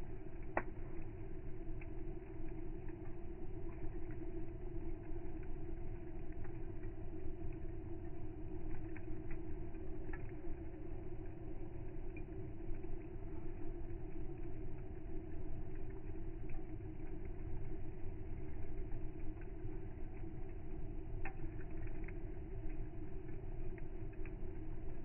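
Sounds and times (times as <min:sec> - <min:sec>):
campfire crackling and popping: 0:00.0 - 0:25.0
steady low hum: 0:00.0 - 0:25.0.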